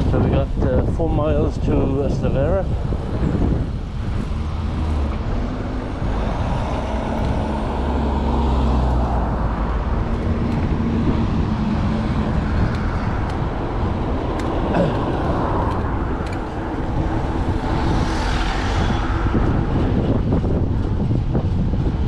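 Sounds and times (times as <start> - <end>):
engine running low rumble: 0.0 - 22.0.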